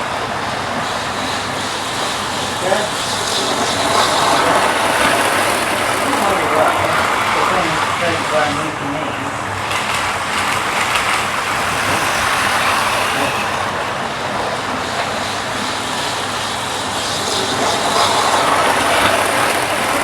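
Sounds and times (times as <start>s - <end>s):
wheels rumbling on track: 0.0s - 20.0s
electric motors whirring: 1.1s - 20.0s.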